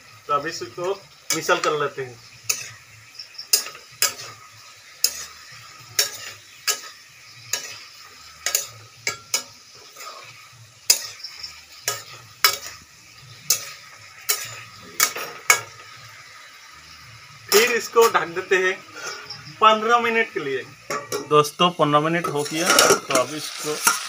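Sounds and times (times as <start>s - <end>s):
food sizzling: 0.0s - 24.0s
metal spatula scraping a wok: 0.6s - 19.5s, 22.2s - 24.0s.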